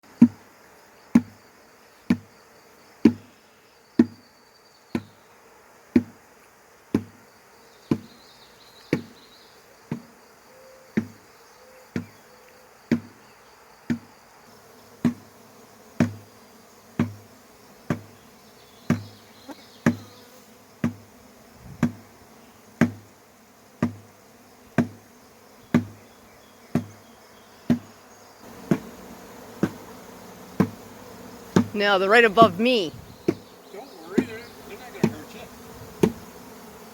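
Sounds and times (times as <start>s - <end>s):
bee swarm buzzing: 0.1s - 36.9s.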